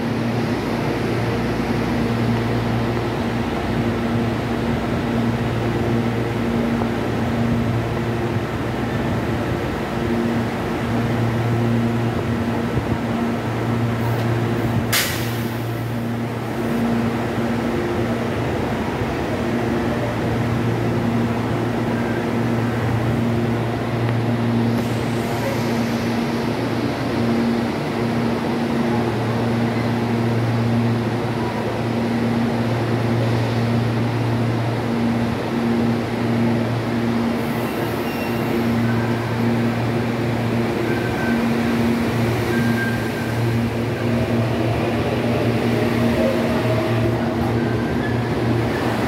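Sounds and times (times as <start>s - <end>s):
train equipment pulsing hum: 0.0s - 49.0s.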